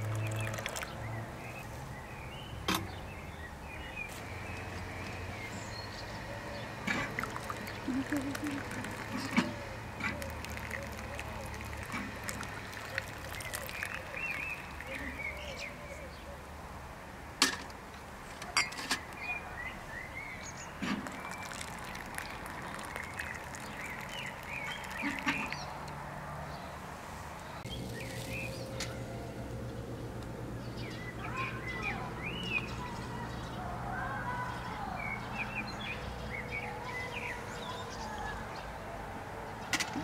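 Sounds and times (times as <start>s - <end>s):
small birds chirping: 0.0s - 16.4s, 19.0s - 26.8s, 27.4s - 29.0s, 30.6s - 38.8s.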